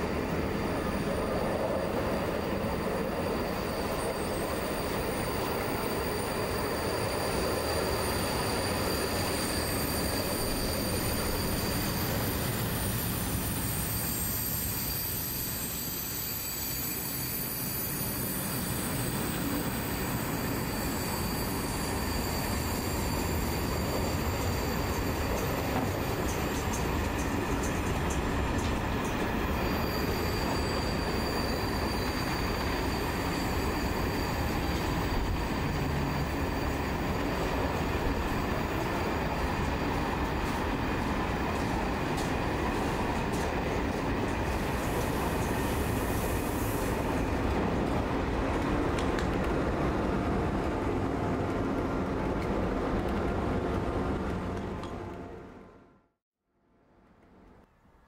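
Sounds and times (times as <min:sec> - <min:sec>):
train wheels rumbling on rails: 0:00.0 - 0:55.8
high wheel squeal: 0:00.6 - 0:47.3.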